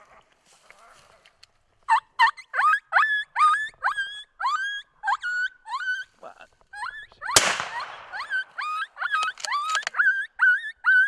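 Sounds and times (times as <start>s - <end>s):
coyote-style yelping: 1.9s - 11.0s.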